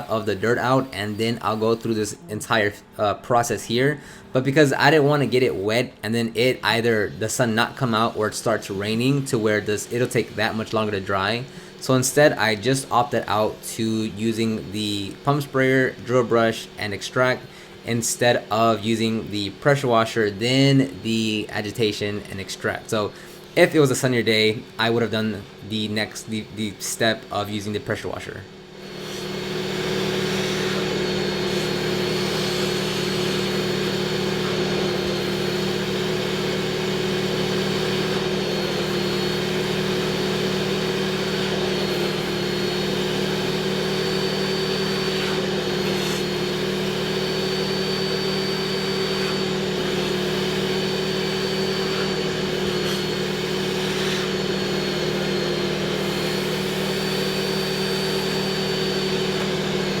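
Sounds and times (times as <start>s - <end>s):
vacuum motor humming: 0.0s - 60.0s.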